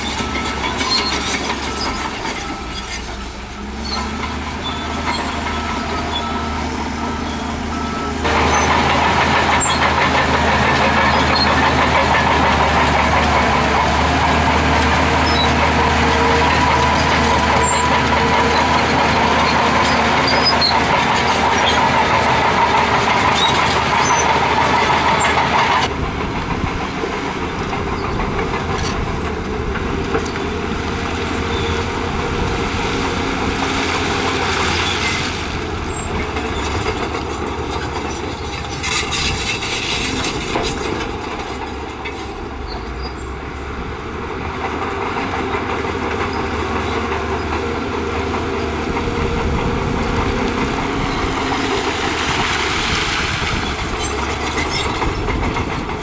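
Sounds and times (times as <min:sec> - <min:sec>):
bulldozer diesel engine: 0:00.0 - 0:56.0
clanking steel tracks: 0:00.0 - 0:56.0.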